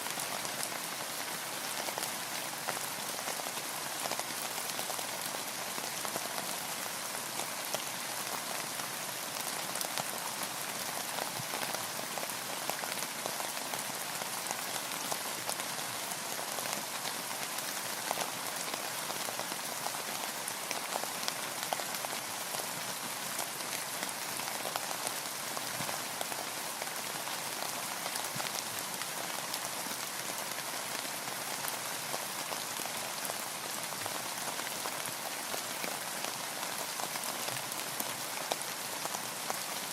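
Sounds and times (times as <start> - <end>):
rain falling on a boat: 0.0 - 39.9.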